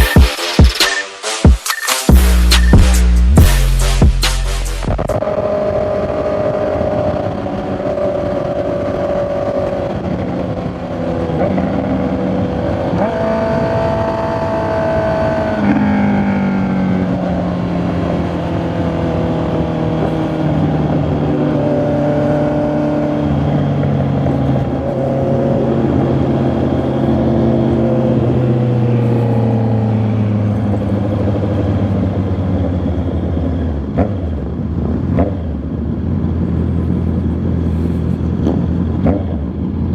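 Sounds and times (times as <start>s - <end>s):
motorcycle engine accelerating: 2.1s - 39.9s.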